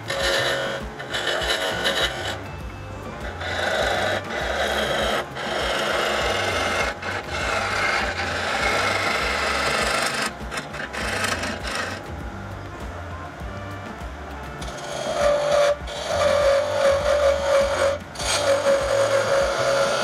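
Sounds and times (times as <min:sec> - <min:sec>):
lathe gouge rasping wood: 0:00.0 - 0:12.3, 0:14.5 - 0:20.0.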